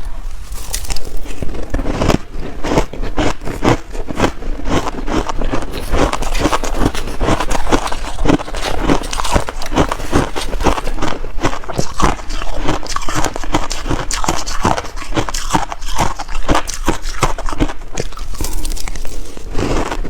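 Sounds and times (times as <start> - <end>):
ice being crunched: 0.0 - 20.0.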